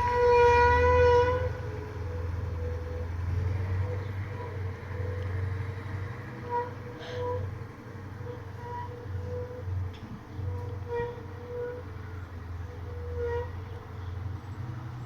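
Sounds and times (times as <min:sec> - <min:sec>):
truck brakes squealing: 0:00.0 - 0:14.6
low rumble of truck: 0:00.0 - 0:15.0.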